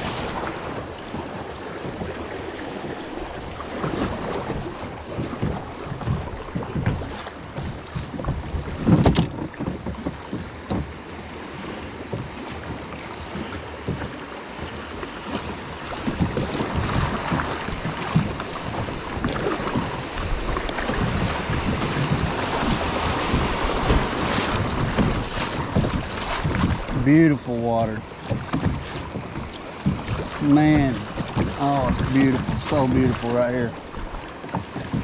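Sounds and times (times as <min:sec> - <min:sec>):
water rushing along hull: 0:00.0 - 0:35.0
water slapping at bow: 0:00.0 - 0:35.0.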